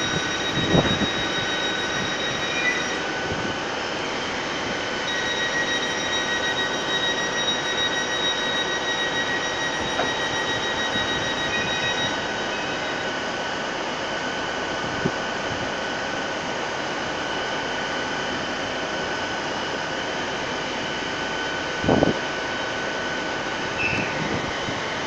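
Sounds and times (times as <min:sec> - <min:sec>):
train engine droning with high whine: 0:00.0 - 0:25.0.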